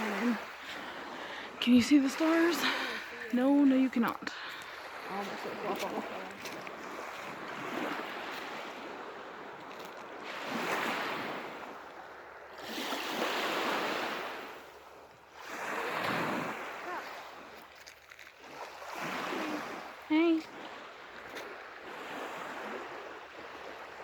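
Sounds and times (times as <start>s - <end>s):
lake waves breaking on beach: 0.0s - 24.0s.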